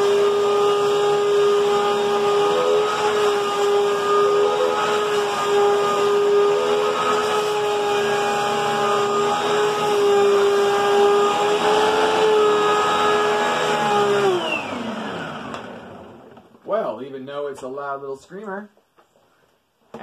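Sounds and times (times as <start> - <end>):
vacuum cleaner motor whining: 0.0 - 16.6.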